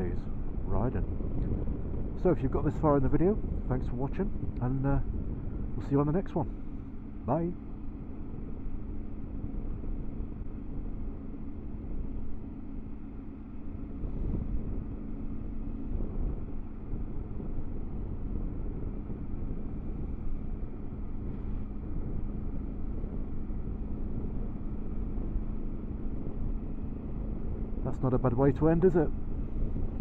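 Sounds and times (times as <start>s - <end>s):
motorcycle engine cruising: 0.0s - 30.0s
road rumble: 0.0s - 30.0s
wind noise: 0.0s - 30.0s.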